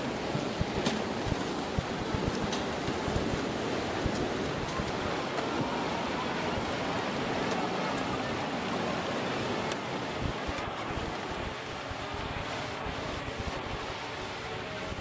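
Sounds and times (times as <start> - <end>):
rushing floodwater: 0.0 - 15.0
wind buffeting microphone: 0.0 - 15.0.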